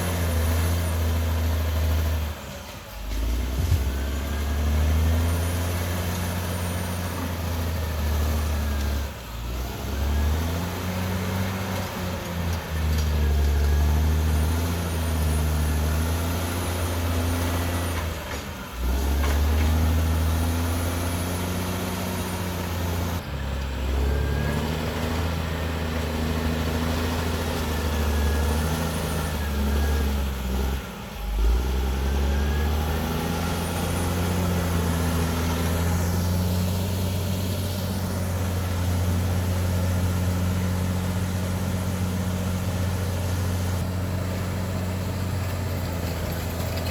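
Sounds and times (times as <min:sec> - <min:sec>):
bulldozer diesel engine: 0:00.0 - 0:46.9.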